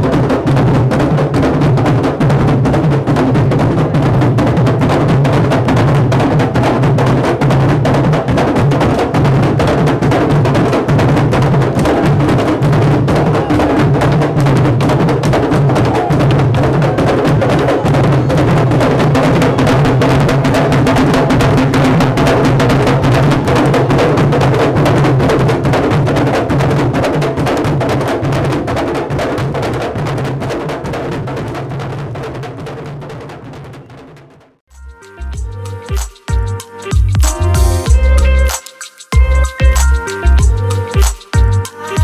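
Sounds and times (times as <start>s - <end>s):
hand drums playing: 0.0s - 30.8s, 34.7s - 42.0s.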